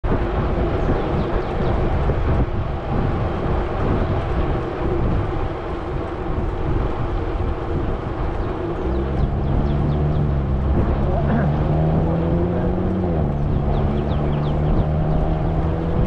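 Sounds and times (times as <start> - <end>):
bicycle road rumble: 0.0 - 16.0
wind on microphone: 0.0 - 16.0.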